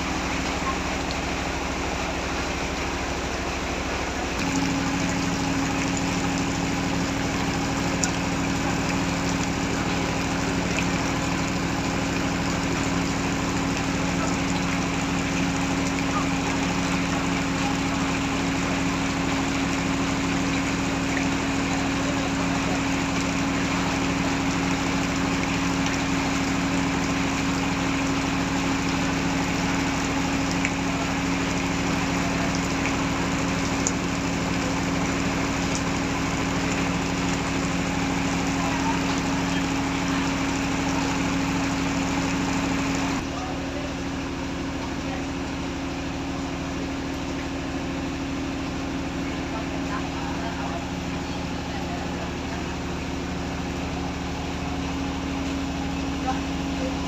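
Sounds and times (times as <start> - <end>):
heavy rain falling: 0.0 - 57.0
steady motor hum: 0.0 - 57.0.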